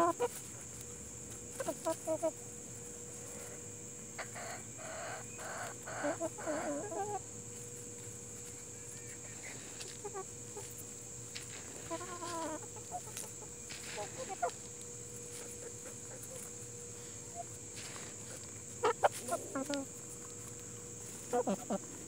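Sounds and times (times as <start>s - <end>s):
hens clucking: 0.0s - 3.2s, 4.1s - 22.0s.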